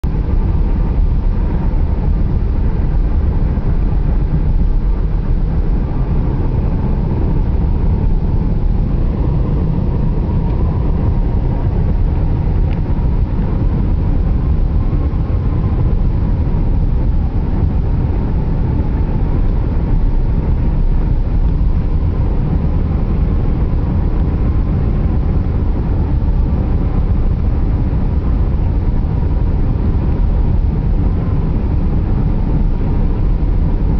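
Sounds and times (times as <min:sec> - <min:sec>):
car road and tyre noise: 0:00.0 - 0:33.9
faint wavering whine: 0:00.0 - 0:33.9.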